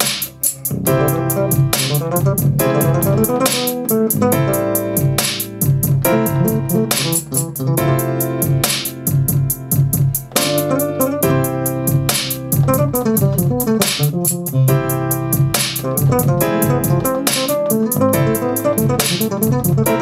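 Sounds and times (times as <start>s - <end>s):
bass line: 0.0s - 20.0s
drum hits: 0.0s - 20.0s
hi-hat ticking: 0.0s - 20.0s
keyboard chords: 0.0s - 20.0s.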